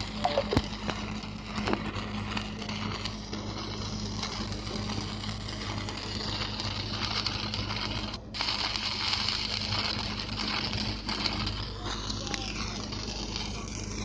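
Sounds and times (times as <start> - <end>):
welding arc crackling: 0.0 - 14.0
welding machine humming: 0.0 - 14.0.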